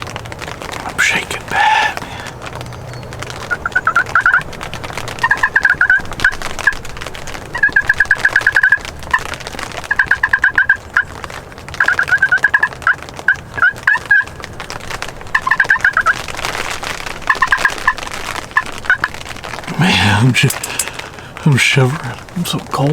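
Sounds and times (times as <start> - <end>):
turkeys gobbling: 0.9 - 22.4.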